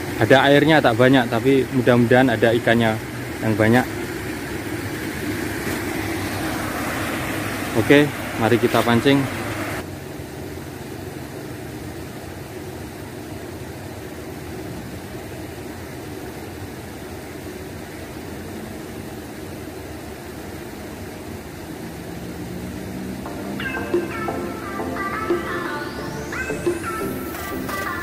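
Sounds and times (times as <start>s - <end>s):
river water rushing over weir: 0.0s - 28.0s.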